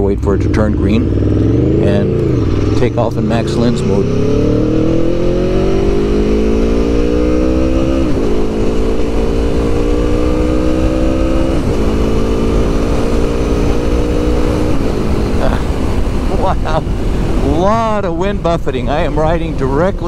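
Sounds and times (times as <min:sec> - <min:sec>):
motorcycle engine accelerating: 0:00.0 - 0:20.0
wind noise: 0:01.0 - 0:18.1.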